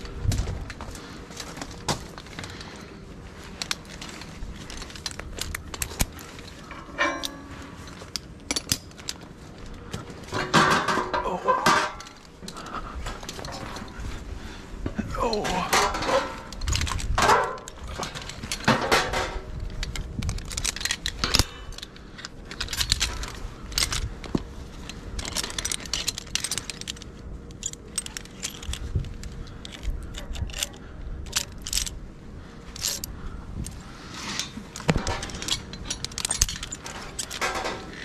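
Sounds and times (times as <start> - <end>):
metal climbing hardware clinking: 1.4 - 14.2, 15.2 - 32.0, 32.6 - 38.0.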